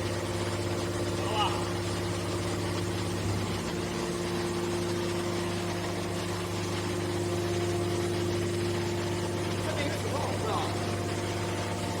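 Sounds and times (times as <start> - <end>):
baler motor and pump humming: 0.0 - 12.0.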